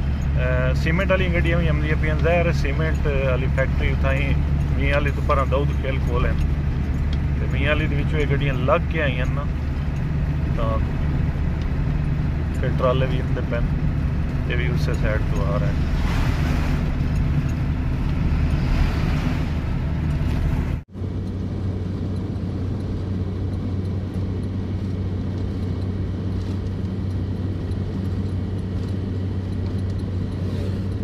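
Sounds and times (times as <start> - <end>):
road noise: 0.0 - 31.0
truck engine running: 0.0 - 31.0
truck passing: 0.0 - 31.0.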